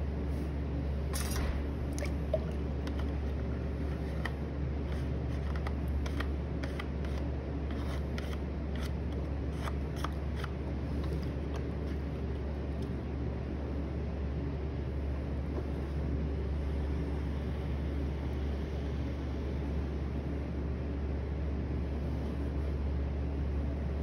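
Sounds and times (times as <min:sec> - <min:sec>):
pottery wheel humming: 0:00.0 - 0:24.0.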